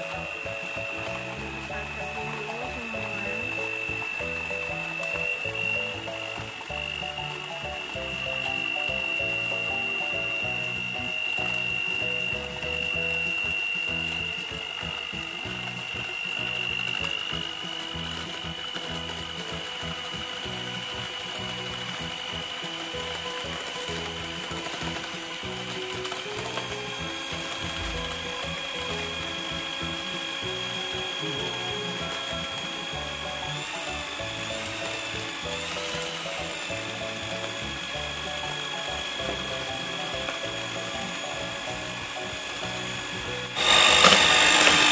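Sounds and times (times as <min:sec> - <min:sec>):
background music: 0:00.0 - 0:44.9
electric hand mixer whining: 0:00.0 - 0:44.9.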